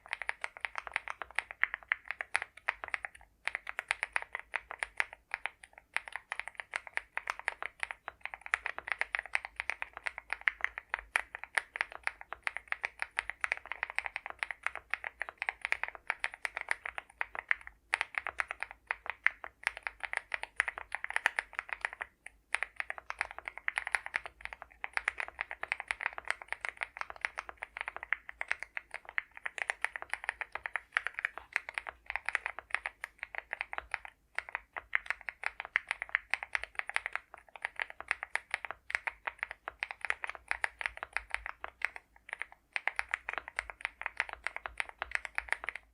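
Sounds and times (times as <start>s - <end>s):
mechanical keyboard typing: 0.0s - 45.9s.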